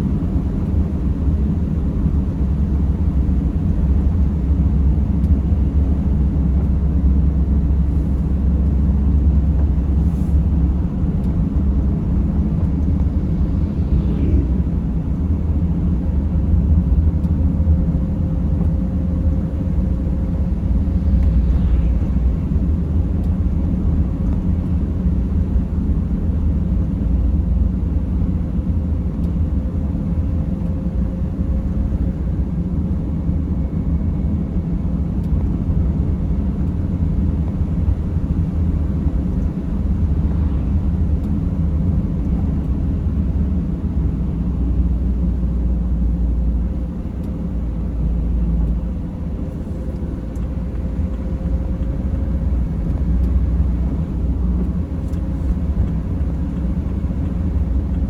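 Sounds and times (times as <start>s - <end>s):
van engine and tyres rumbling: 0.0s - 58.0s.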